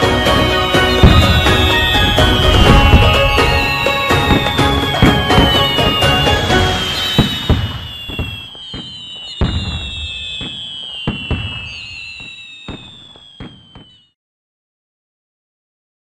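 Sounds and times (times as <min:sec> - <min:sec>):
fireworks bangs: 0:00.0 - 0:14.2
fireworks whistling: 0:00.0 - 0:14.2.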